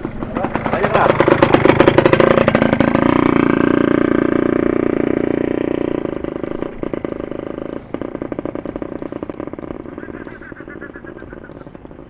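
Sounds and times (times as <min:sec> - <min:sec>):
motorcycle passing by: 0:00.0 - 0:12.0.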